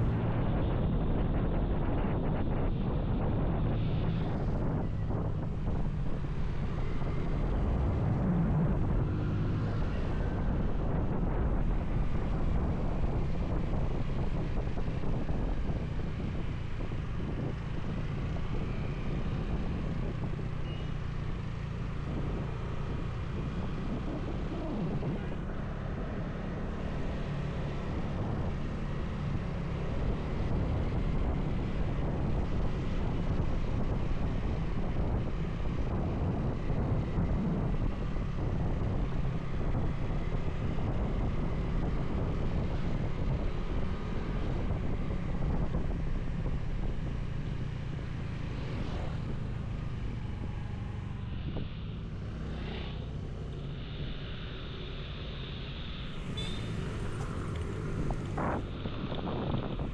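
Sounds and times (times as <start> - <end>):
motorcycle running: 0.0 - 59.9
wind noise on microphone: 0.0 - 59.9.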